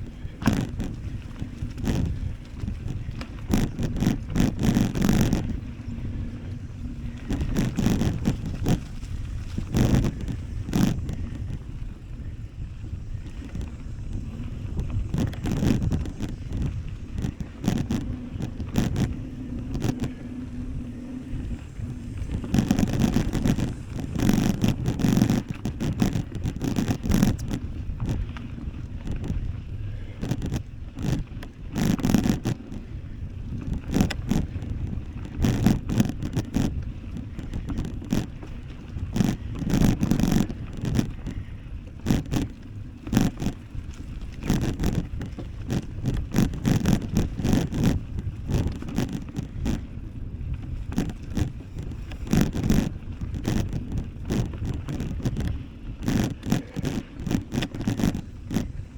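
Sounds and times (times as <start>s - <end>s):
bike rattling and clicking: 0.0s - 58.9s
wind on microphone: 0.0s - 58.9s.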